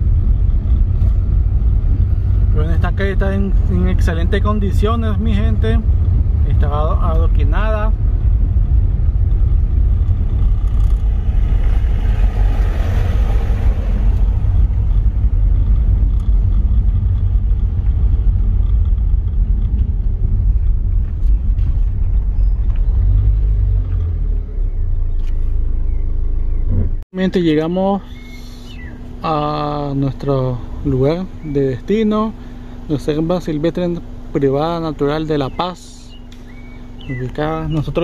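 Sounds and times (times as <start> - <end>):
vehicle rumbling over cobblestones: 0.0 - 38.0.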